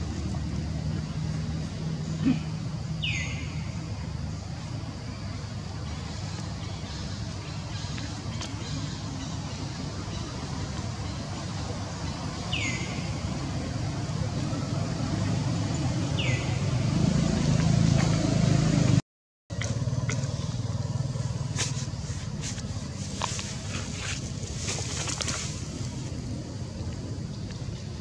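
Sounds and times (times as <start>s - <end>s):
distant vehicle rumble: 0.0s - 28.0s.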